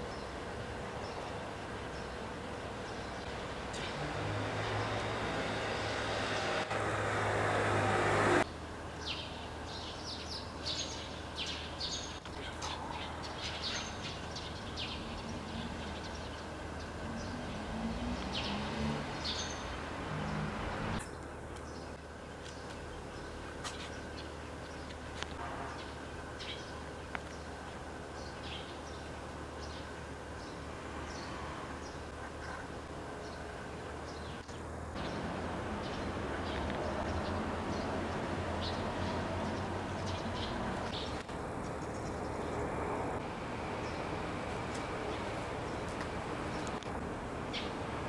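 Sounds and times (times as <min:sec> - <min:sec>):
vehicle rumbling: 0:00.0 - 0:48.0.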